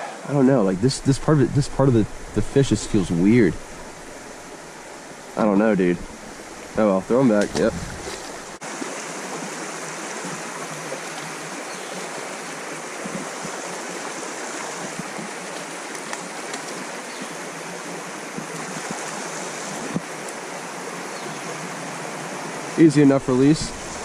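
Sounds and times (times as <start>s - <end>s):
creek water flowing: 0.0s - 24.0s.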